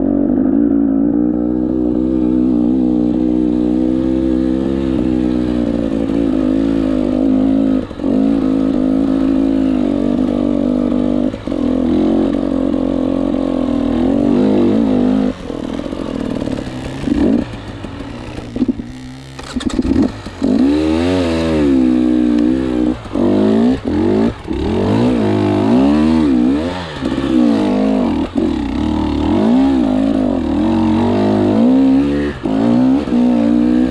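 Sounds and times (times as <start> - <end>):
two-stroke motorcycle engine revving: 0.0 - 33.9.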